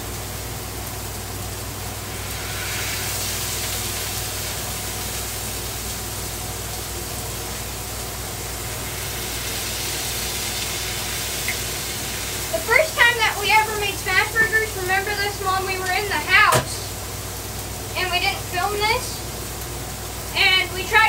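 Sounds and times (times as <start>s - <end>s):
low steady hum: 0.0s - 21.0s
meat and onions sizzling on griddle: 0.0s - 21.0s.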